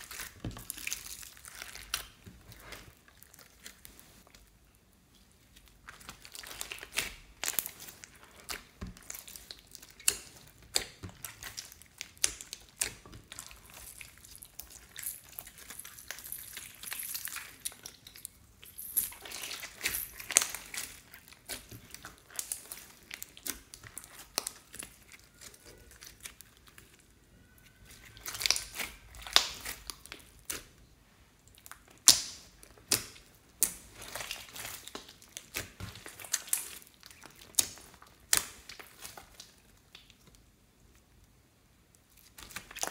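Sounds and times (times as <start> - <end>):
slime crackling and popping: 0.0 - 4.4, 5.4 - 30.7, 31.5 - 40.4, 42.0 - 42.9.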